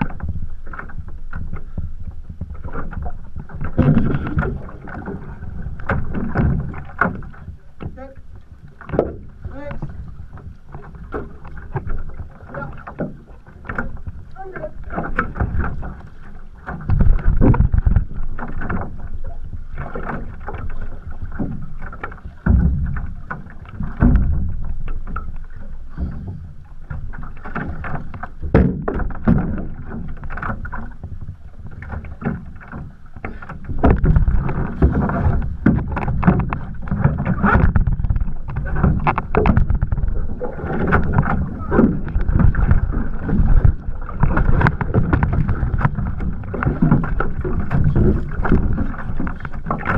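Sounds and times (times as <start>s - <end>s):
water splashing against hull: 0.0s - 49.9s
wind rumbling on microphone: 0.0s - 49.9s.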